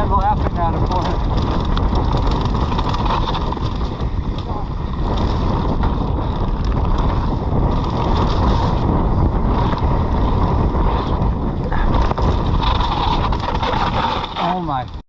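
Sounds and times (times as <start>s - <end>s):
bike tyres rumbling and rattling: 0.0s - 15.0s
wind rushing over microphone: 0.0s - 15.0s.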